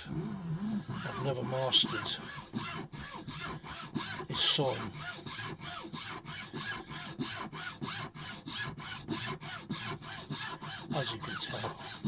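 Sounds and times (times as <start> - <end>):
hacksaw cutting wood: 0.0 - 12.0.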